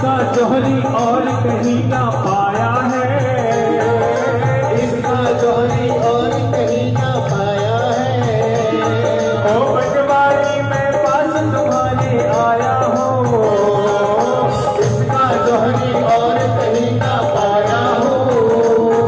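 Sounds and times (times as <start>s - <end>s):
hand drums and percussion: 0.0s - 19.0s
man singing through speaker: 0.0s - 19.0s.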